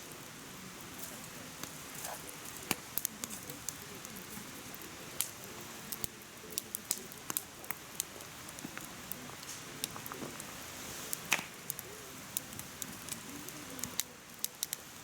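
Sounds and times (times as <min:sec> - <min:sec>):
firewood crackling and popping: 0:00.0 - 0:15.0
hiss of flame: 0:00.0 - 0:15.0.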